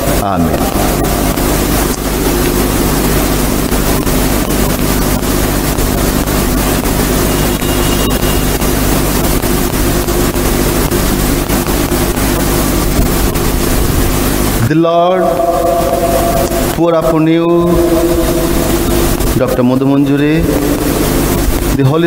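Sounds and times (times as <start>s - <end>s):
electrical hum with hiss: 0.0s - 22.0s.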